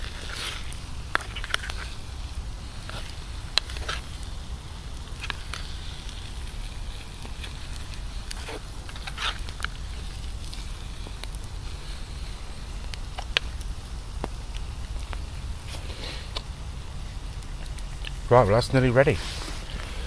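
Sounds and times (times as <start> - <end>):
food crackling in a pan: 0.0 - 20.0
steady low rumble: 0.0 - 20.0.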